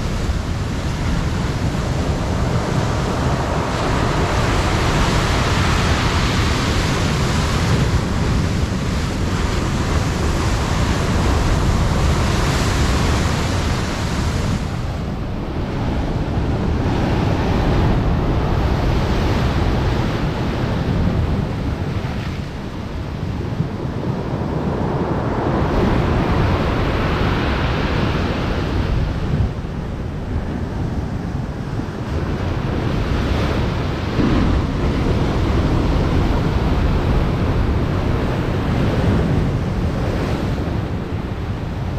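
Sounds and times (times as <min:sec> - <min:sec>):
waves breaking and washing ashore: 0:00.0 - 0:41.9
wind buffeting microphone: 0:00.0 - 0:41.9.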